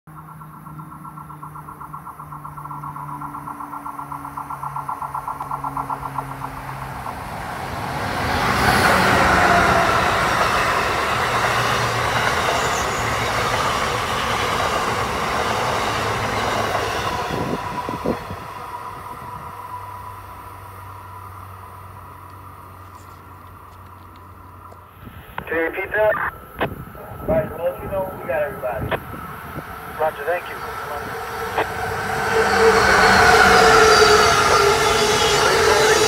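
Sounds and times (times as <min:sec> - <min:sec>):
electric train passing: 0:00.1 - 0:36.0
pulsing locomotive hum: 0:00.1 - 0:36.0.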